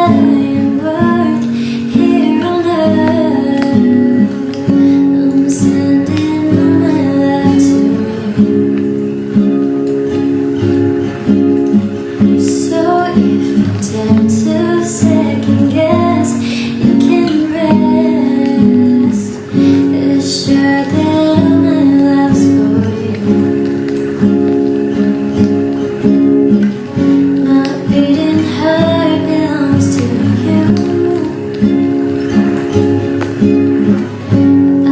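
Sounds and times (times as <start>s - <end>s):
woman singing: 0.0s - 10.0s, 11.8s - 25.3s, 27.0s - 34.9s
acoustic guitar strumming: 0.0s - 34.9s.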